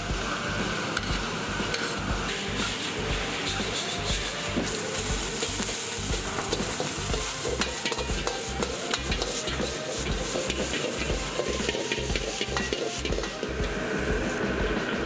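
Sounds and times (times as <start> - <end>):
food sizzling in a wok: 0.0 - 15.0
metal tools scraping a wok: 1.0 - 13.6.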